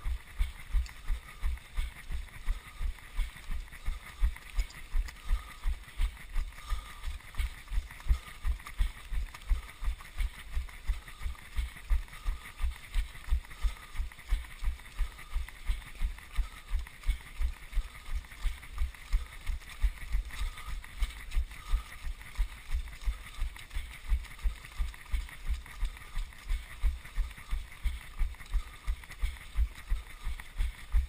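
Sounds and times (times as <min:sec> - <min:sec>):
running footsteps on pavement: 0:00.0 - 0:31.0.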